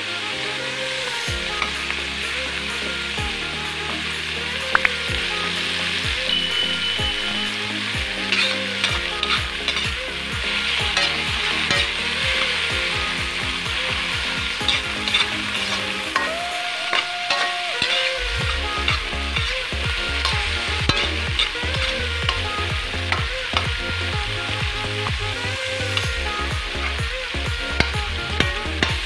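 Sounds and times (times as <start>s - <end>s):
vegetables sizzling in oil: 0.0s - 29.0s
metal ladle scraping wok: 3.8s - 29.0s.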